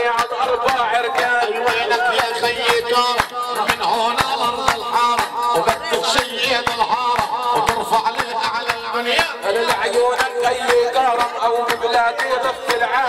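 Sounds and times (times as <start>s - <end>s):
fast drum beat: 0.0s - 13.0s.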